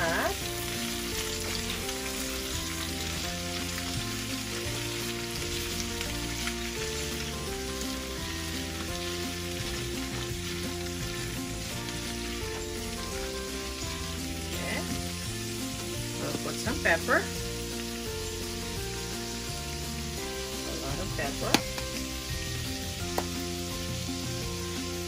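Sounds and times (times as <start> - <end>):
food sizzling in a skillet: 0.0 - 25.0
soft background music: 0.0 - 25.0.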